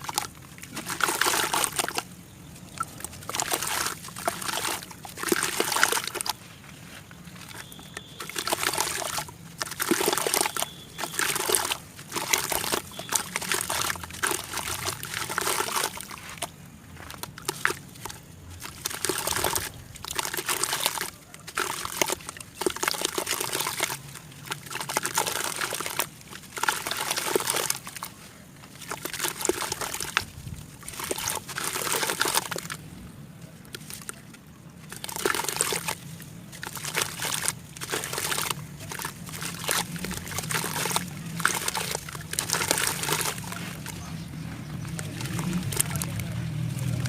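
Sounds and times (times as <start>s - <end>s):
water sloshing and trickling: 0.0s - 47.0s.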